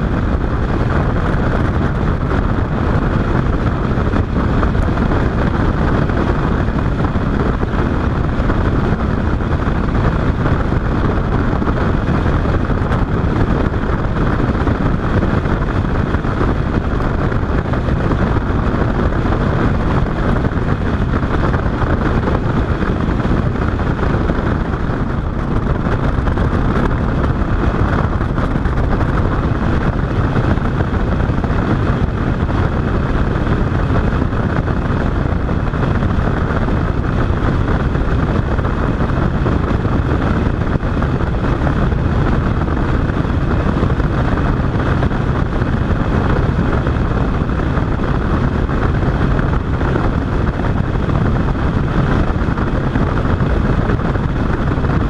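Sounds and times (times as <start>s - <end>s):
outboard motor running: 0.0s - 55.0s
wind rushing on microphone: 0.0s - 55.0s.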